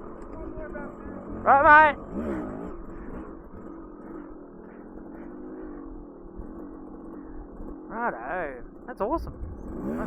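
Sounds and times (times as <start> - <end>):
motorcycle engine idling low: 0.0 - 10.0.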